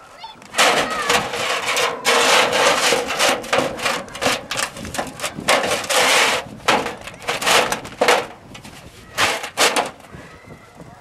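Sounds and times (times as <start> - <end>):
metal scraping on shingles: 0.3 - 10.4.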